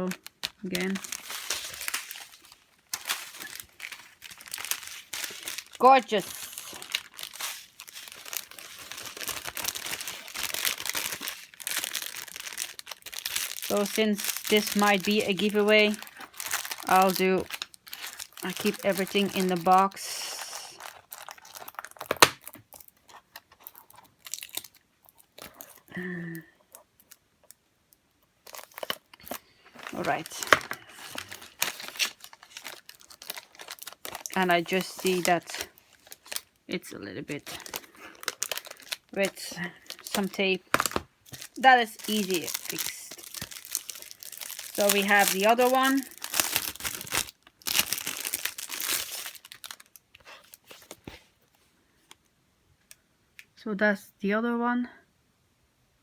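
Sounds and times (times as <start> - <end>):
plastic packaging crinkling: 0.0 - 27.6, 28.4 - 52.2.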